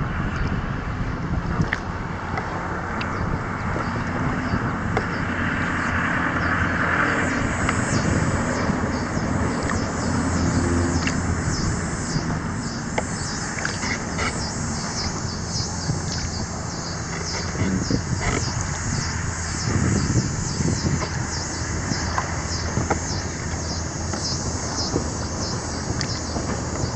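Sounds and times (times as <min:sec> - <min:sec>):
wind on microphone: 0:00.0 - 0:26.9
car passing: 0:02.5 - 0:26.9.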